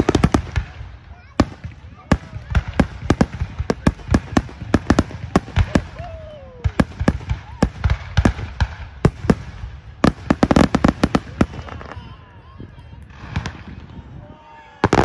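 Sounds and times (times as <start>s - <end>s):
fireworks bursting: 0.0s - 12.2s, 12.9s - 14.1s, 14.8s - 15.0s.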